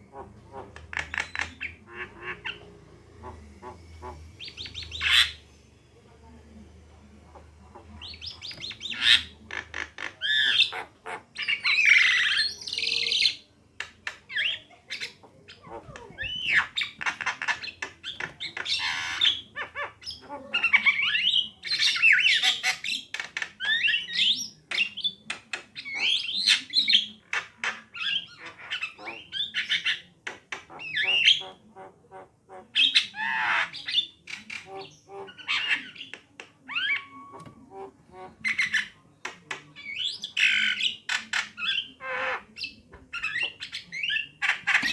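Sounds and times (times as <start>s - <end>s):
myna bird chattering: 0.0s - 5.6s, 7.2s - 44.9s.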